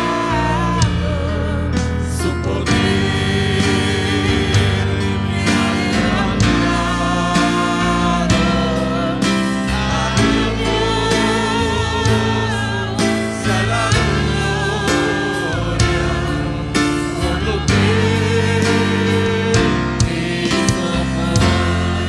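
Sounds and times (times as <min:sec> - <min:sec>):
worship music with singing: 0:00.0 - 0:22.0.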